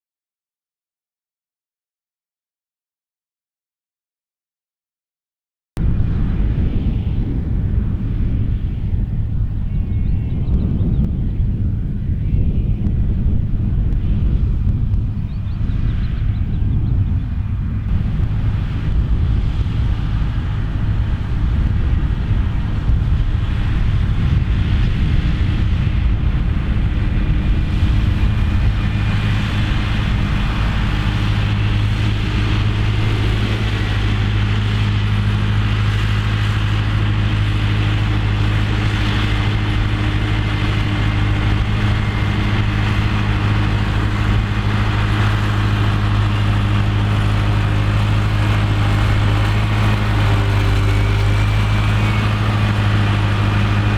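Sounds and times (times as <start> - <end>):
tractor diesel engine running: 5.8 - 53.9.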